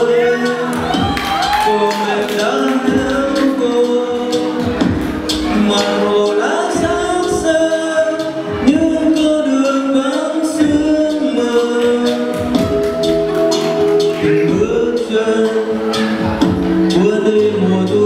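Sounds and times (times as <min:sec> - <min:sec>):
man singing into a microphone: 0:00.0 - 0:12.8, 0:14.1 - 0:18.0
karaoke backing track: 0:00.0 - 0:18.0.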